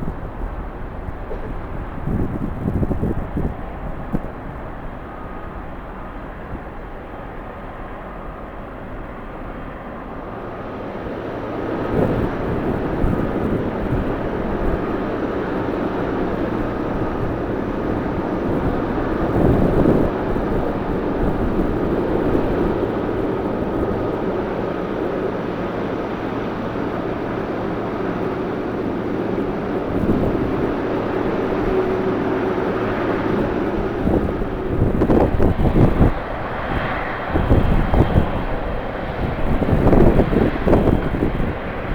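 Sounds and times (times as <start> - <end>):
jet engines running: 0.0 - 41.9
wind buffeting microphone: 0.0 - 41.9.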